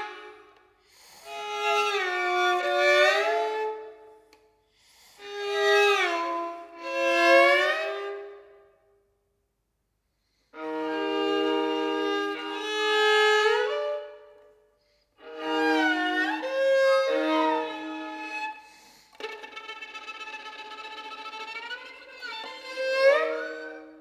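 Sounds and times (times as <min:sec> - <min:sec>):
solo violin playing: 0:00.0 - 0:00.6, 0:01.3 - 0:04.1, 0:05.2 - 0:08.5, 0:10.6 - 0:14.5, 0:15.2 - 0:24.0.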